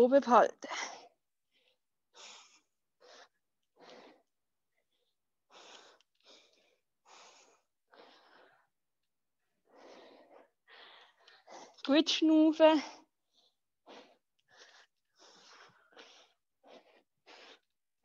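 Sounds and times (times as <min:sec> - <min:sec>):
person breathing hard: 0:00.7 - 0:08.8, 0:09.6 - 0:11.8, 0:13.3 - 0:17.7.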